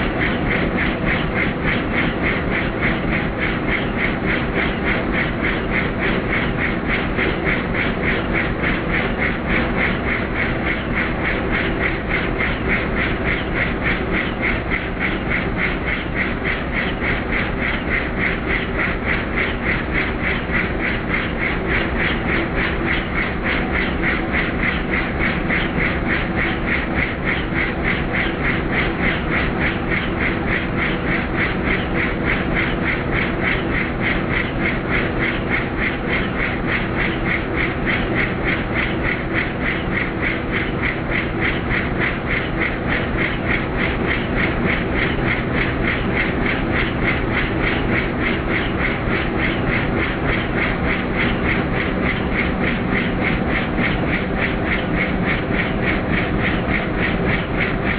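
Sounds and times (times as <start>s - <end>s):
helicopter engine hum: 0.0s - 57.9s
helicopter rotor chopping: 0.0s - 57.9s.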